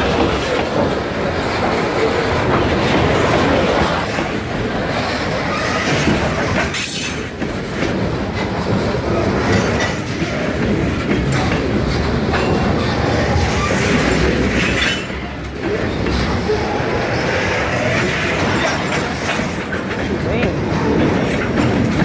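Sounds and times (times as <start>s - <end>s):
freight train rumbling past: 0.0s - 22.0s
steel wheels clacking over rail joints: 0.0s - 22.0s.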